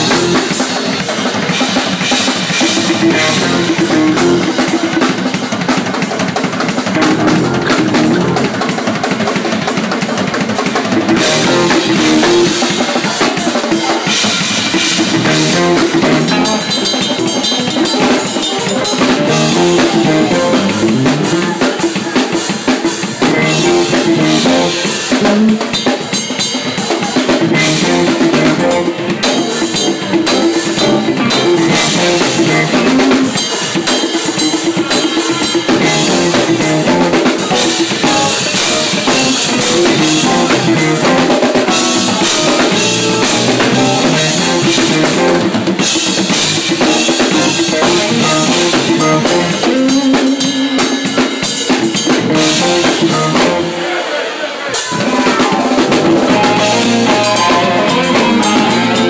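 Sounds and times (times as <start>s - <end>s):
band playing pitched notes: 0.0s - 10.0s, 10.8s - 54.2s, 54.8s - 59.0s
drum kit groove: 0.0s - 59.0s.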